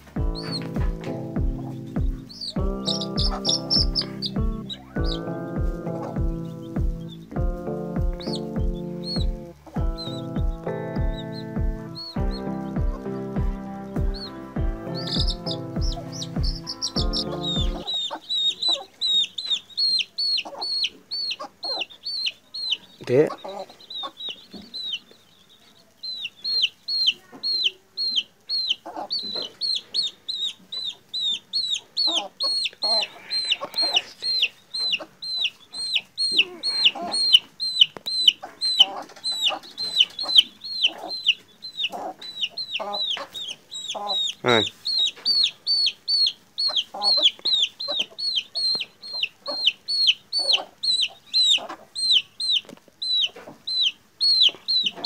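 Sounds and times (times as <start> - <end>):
lower shorter chick calls: 0.0 - 25.2, 26.0 - 55.0
chick peeping in distress: 0.0 - 55.0.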